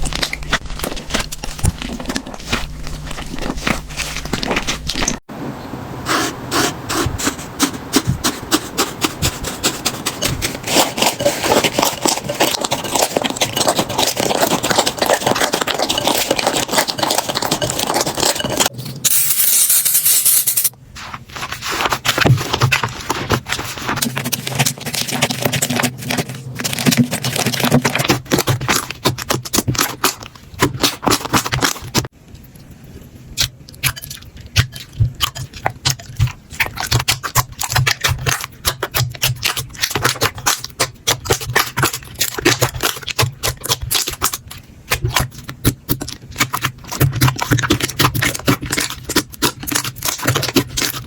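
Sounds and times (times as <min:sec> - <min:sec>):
slime clicking and crackling: 0:00.0 - 0:05.3, 0:09.7 - 0:18.7, 0:21.5 - 0:32.1, 0:33.4 - 0:51.0.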